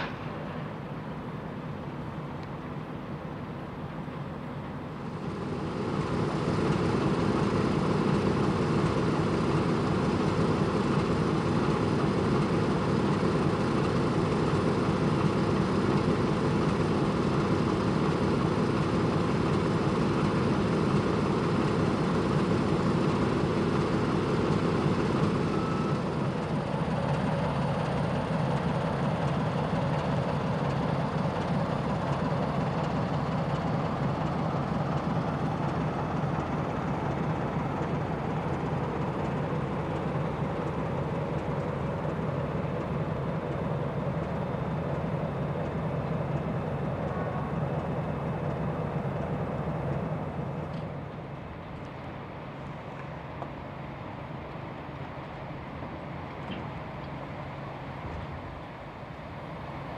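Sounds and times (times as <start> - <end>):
diesel locomotive engine: 0.0 - 59.9.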